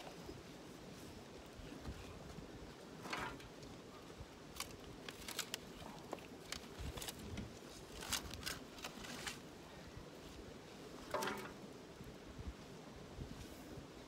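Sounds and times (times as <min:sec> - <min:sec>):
faint steady background noise: 0:00.0 - 0:14.0.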